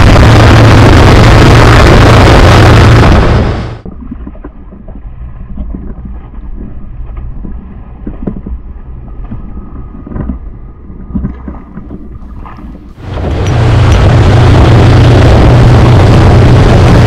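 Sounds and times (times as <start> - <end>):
muffled waves splashing: 0.0 - 17.0
steady low rumble: 0.0 - 17.0.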